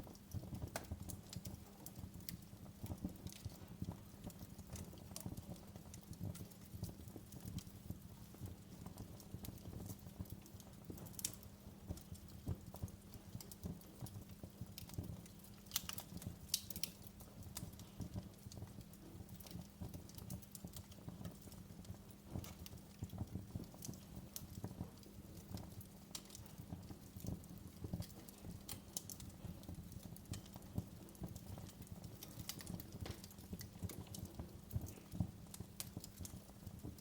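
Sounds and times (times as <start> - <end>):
low rumble of flames: 0.0 - 37.0
wood fire crackling and popping: 0.0 - 37.0.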